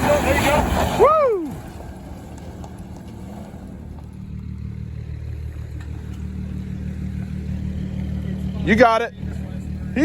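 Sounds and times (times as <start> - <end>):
car engine under load: 0.0 - 10.0.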